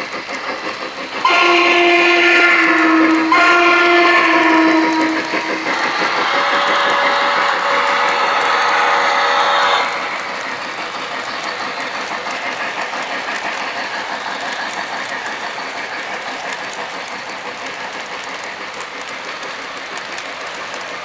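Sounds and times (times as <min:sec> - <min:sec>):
model train running on track: 0:00.0 - 0:21.0
wheels clicking over rails: 0:00.0 - 0:21.0.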